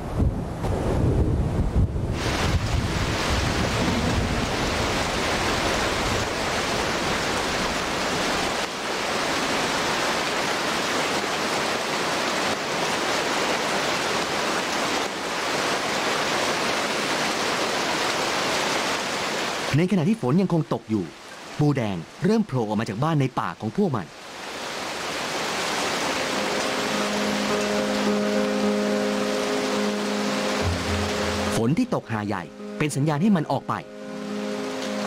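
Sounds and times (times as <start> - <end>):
heavy rain on foliage: 0.0 - 35.0.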